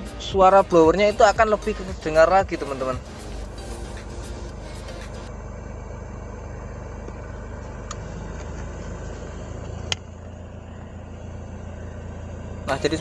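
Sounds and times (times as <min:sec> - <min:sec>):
blower fan humming: 0:00.0 - 0:13.0.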